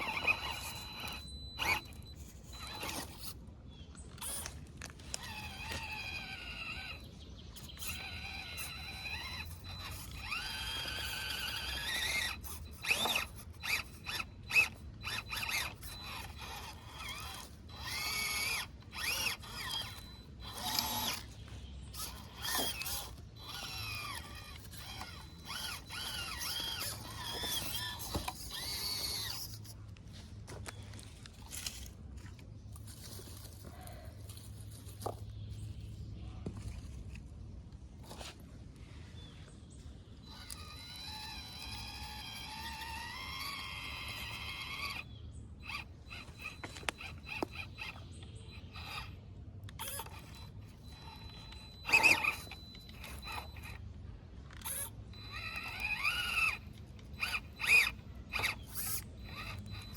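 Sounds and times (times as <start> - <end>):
small electric motor whining: 0.0 - 37.2, 38.0 - 59.9.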